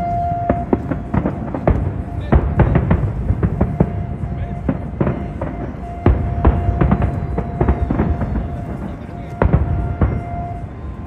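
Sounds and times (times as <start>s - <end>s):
fireworks bursting: 0.0s - 11.0s
music playing: 0.0s - 11.0s.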